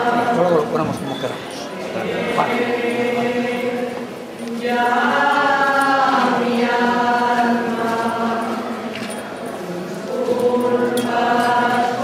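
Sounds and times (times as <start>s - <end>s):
voices singing religious chant: 0.0s - 12.0s.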